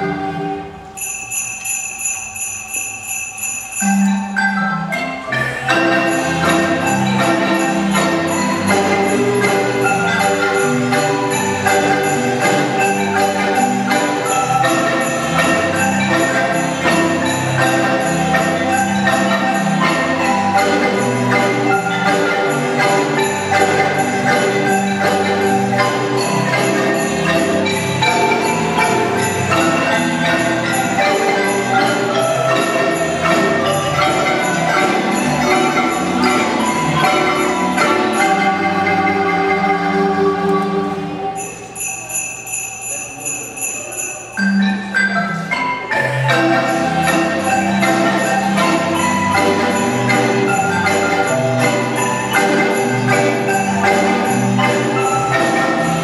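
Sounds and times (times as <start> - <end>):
marimba ensemble playing: 0.0 - 56.0
jingle bells shaken: 0.9 - 56.0.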